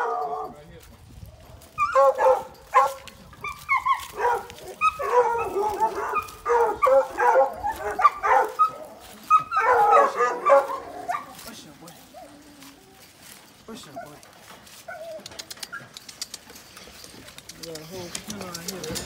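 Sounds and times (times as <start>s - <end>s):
dogs barking and yipping: 0.0s - 0.6s, 1.3s - 19.0s.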